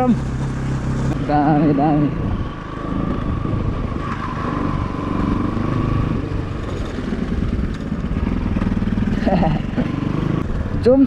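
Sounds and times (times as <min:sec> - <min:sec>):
motorcycle engine running: 0:00.0 - 0:11.0
tyres on gravel road: 0:00.0 - 0:11.0.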